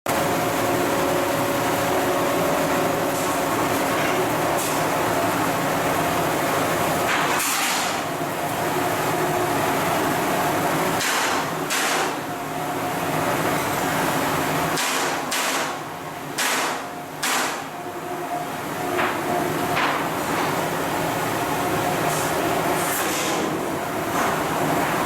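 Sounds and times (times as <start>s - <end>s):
machinery hum: 0.1s - 14.7s, 15.8s - 25.0s.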